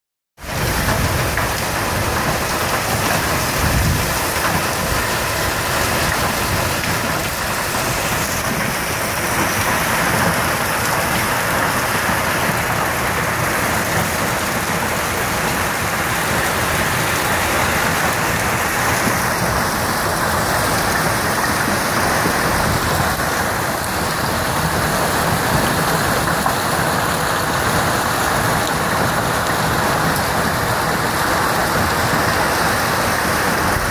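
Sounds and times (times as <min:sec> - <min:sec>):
hail and heavy rain pelting: 0:00.4 - 0:33.9.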